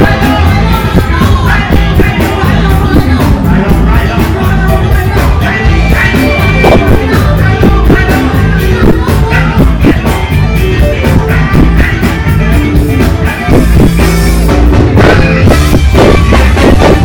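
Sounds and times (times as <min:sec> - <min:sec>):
drum beat: 0:00.0 - 0:17.0
funk band playing: 0:00.0 - 0:17.0
person singing: 0:00.0 - 0:17.0.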